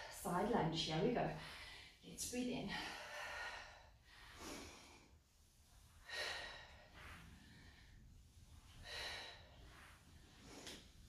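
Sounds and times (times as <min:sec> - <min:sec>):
woman breathing while exercising: 0:01.3 - 0:11.0.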